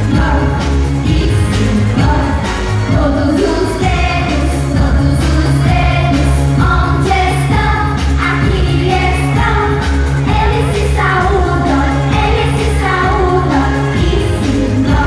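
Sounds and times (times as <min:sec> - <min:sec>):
backing track with heavy bass: 0:00.0 - 0:15.0
girl singing pop song: 0:00.0 - 0:15.0.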